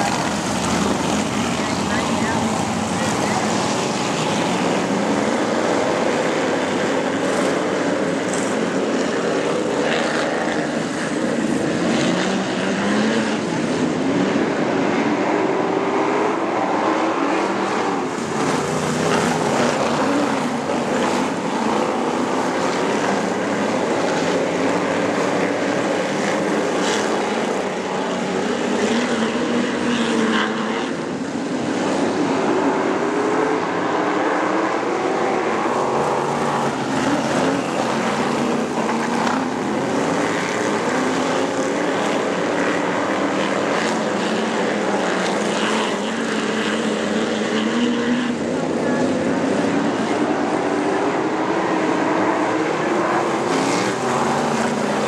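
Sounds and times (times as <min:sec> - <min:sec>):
race car engines accelerating: 0:00.0 - 0:55.0.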